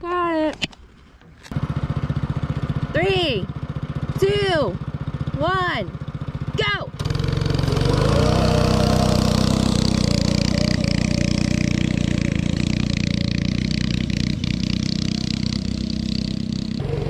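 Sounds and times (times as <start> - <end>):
small engine running: 1.5 - 17.0.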